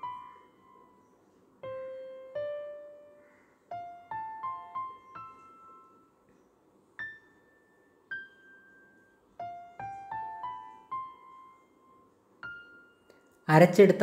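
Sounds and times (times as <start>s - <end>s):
soft piano notes: 0.0s - 14.0s.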